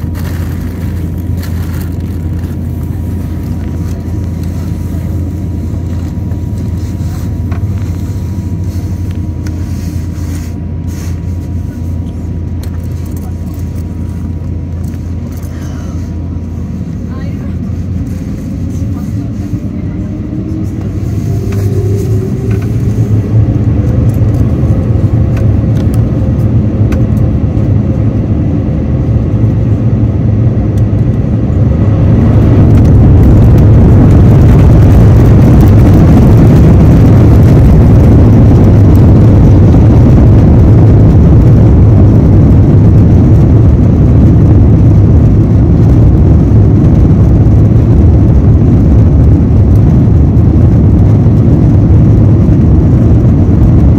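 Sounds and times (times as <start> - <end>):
jet engines rumbling from cabin: 0.0 - 53.9.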